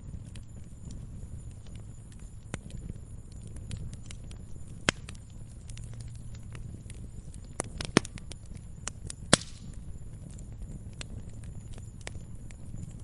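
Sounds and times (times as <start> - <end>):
low fire rumble: 0.0 - 13.0
wood fire crackling: 0.0 - 13.0.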